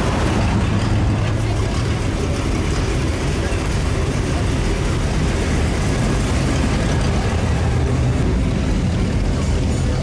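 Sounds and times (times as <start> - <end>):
cars driving past: 0.0 - 10.0.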